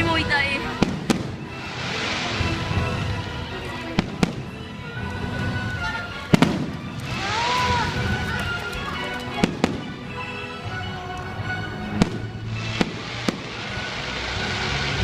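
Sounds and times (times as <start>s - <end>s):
fireworks bangs: 0.0s - 10.1s, 11.9s - 15.0s
firework hissing: 0.0s - 10.8s, 11.6s - 15.0s
music soundtrack: 0.0s - 15.0s.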